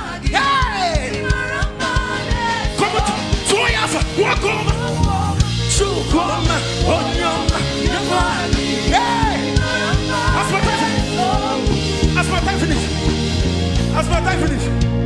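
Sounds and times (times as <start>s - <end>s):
voices singing: 0.0s - 14.8s
bass: 0.0s - 15.0s
fast drum beat: 0.0s - 15.0s.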